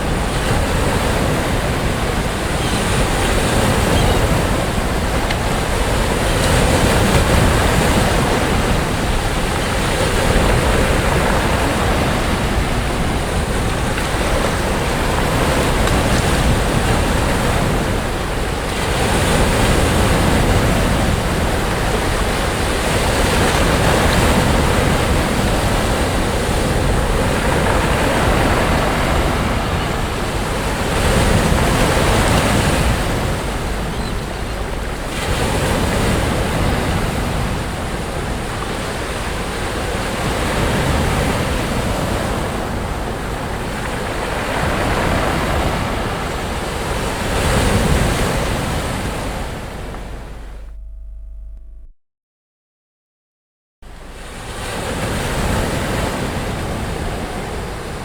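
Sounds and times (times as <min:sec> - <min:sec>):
sea waves breaking on beach: 0:00.0 - 0:50.6, 0:53.9 - 0:58.0.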